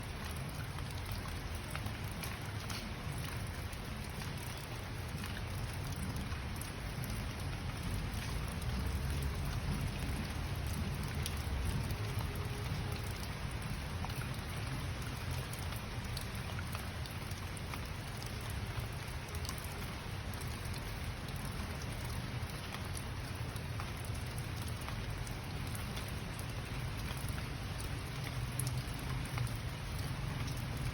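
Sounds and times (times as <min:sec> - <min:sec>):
steady rainfall: 0:00.0 - 0:30.9
drops ticking on a surface: 0:00.1 - 0:30.9.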